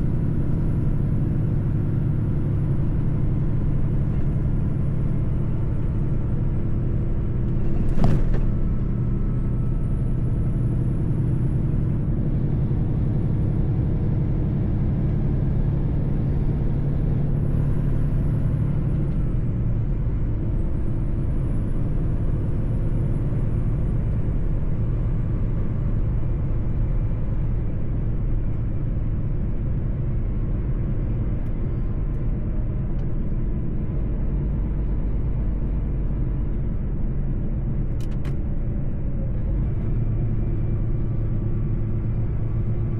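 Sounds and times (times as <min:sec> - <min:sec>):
truck engine and road rumble: 0:00.0 - 0:42.9.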